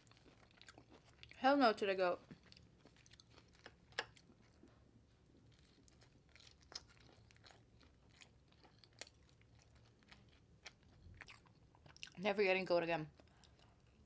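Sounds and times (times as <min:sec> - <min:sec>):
person chewing food: 0:00.0 - 0:01.4, 0:02.2 - 0:12.2, 0:13.1 - 0:14.0.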